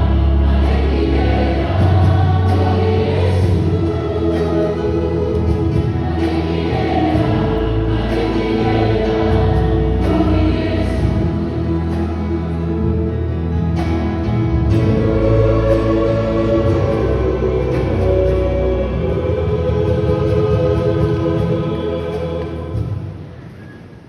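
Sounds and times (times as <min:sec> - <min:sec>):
instrumental backing with bass: 0:00.0 - 0:22.9
choir singing gospel: 0:00.0 - 0:23.3.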